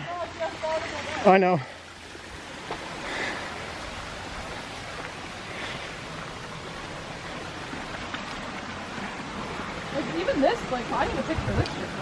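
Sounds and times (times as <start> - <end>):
water rushing from waterfall: 0.0 - 12.0.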